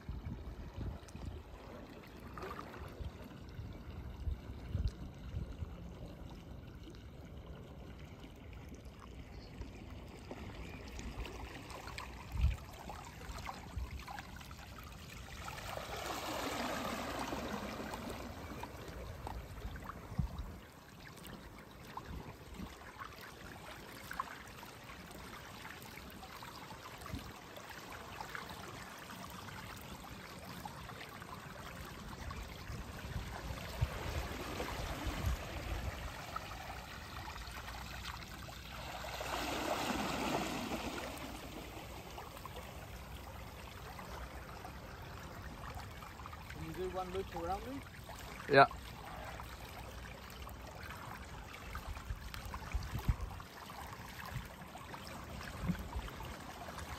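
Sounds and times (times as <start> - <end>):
water rushing and trickling: 0.0 - 56.9.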